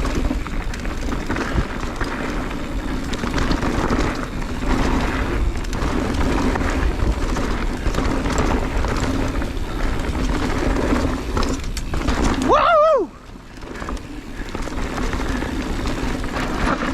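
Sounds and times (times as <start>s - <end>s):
bike rattling over rocks: 0.0s - 16.9s
tyres rolling: 0.0s - 16.9s.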